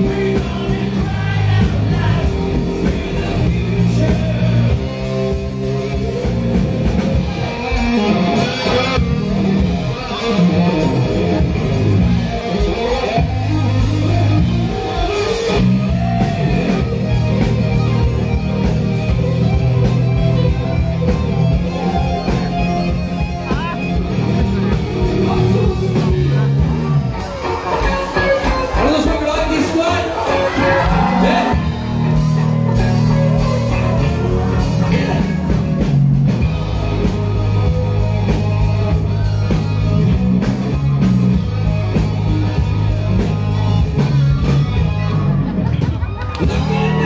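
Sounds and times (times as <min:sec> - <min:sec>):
electric guitars: 0:00.0 - 0:47.0
live rock band playing: 0:00.0 - 0:47.0.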